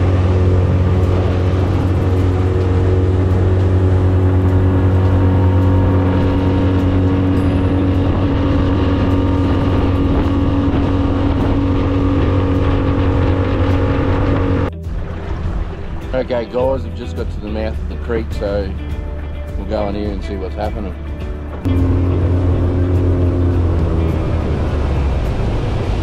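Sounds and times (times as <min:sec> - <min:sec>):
outboard motor running: 0:00.0 - 0:26.0
water rushing along hull: 0:00.0 - 0:26.0.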